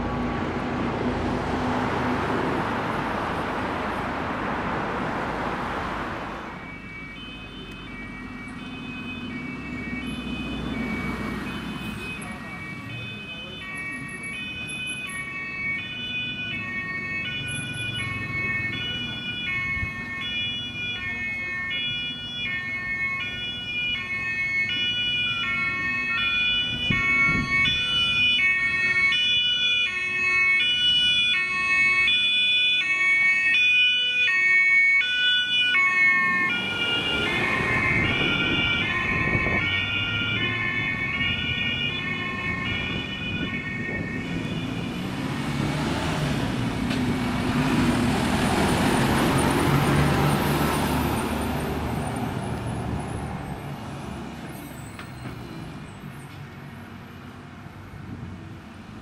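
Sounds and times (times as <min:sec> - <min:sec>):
vehicle engine and tyre noise: 0:00.0 - 0:59.0
two-tone emergency sirens: 0:05.0 - 0:59.0.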